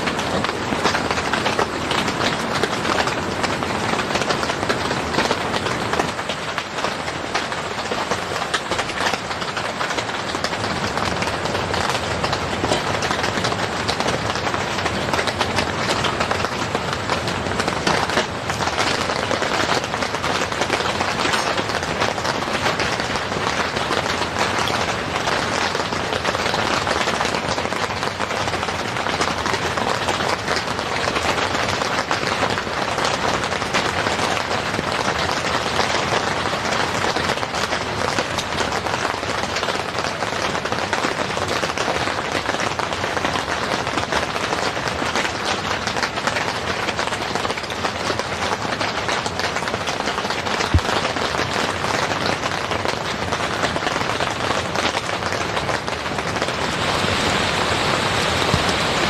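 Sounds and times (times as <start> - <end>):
heavy rain on a tent: 0.0 - 59.0.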